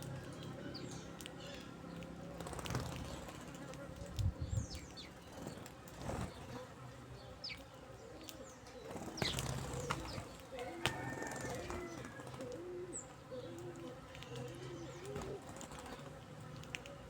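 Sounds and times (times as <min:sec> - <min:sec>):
fluttering wings: 0:00.0 - 0:06.8, 0:07.5 - 0:17.0.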